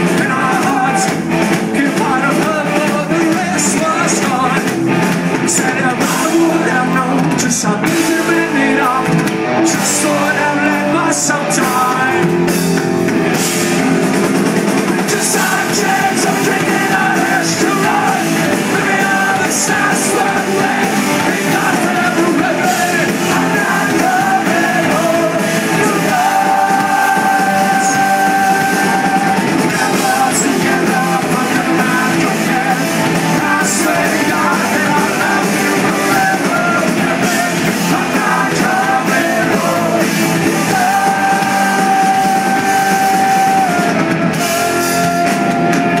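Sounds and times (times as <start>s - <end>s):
lead vocal singing: 0.0s - 46.0s
punk rock band playing: 0.0s - 46.0s.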